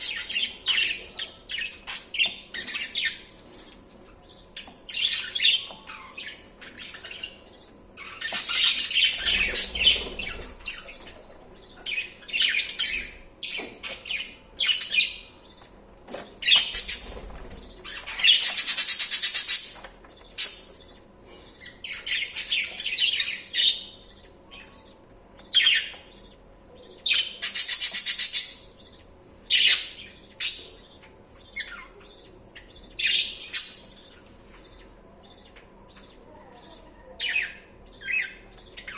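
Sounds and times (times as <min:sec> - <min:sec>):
budgerigars squawking and chirping: 0:00.0 - 0:15.8, 0:16.4 - 0:38.9.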